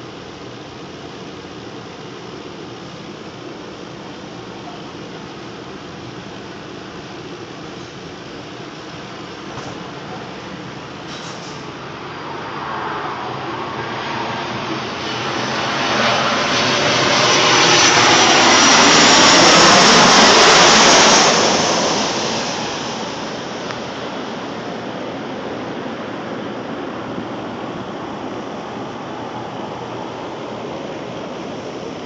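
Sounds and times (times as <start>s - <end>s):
jet engine roar with whine: 0.0s - 32.0s.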